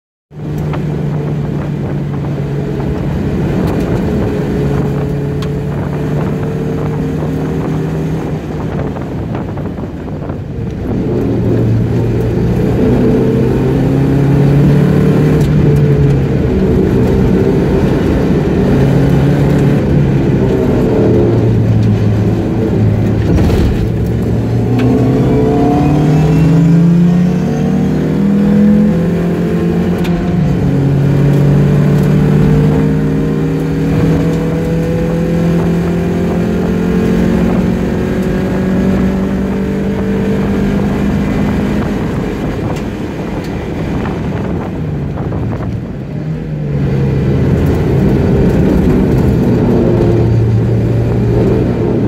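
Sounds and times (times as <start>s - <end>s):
car engine revving in cabin: 0.4s - 52.0s.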